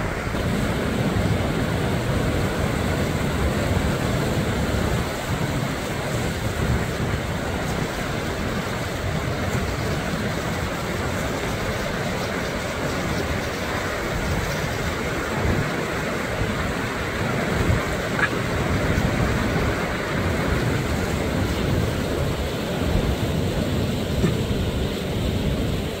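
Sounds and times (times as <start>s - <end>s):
waterfall rushing: 0.0s - 26.0s
wind buffeting microphone: 0.0s - 26.0s.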